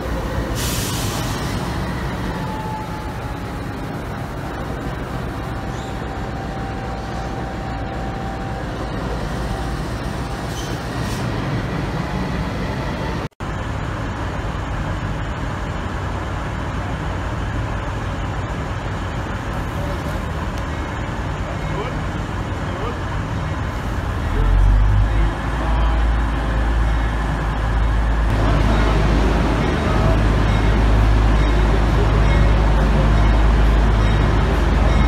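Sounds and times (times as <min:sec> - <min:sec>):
diesel locomotive engine rumbling: 0:00.0 - 0:35.0.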